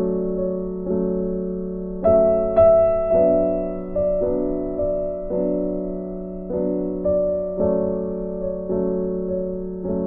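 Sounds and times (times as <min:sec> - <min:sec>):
slow gentle piano music: 0:00.0 - 0:10.0.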